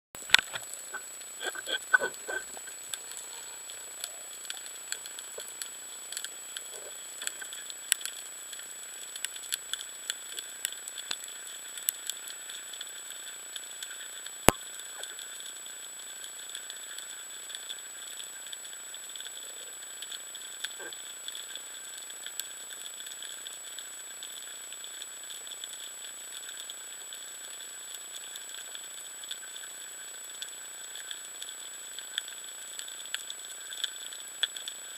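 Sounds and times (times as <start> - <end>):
faint underwater hiss: 0.2 - 34.9
small clicks and crackles: 0.2 - 34.9.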